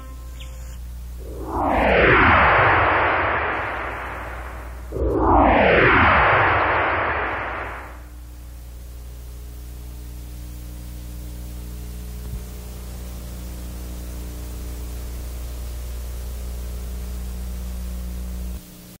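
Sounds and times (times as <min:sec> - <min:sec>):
low electrical hum with hiss: 0:00.0 - 0:19.0.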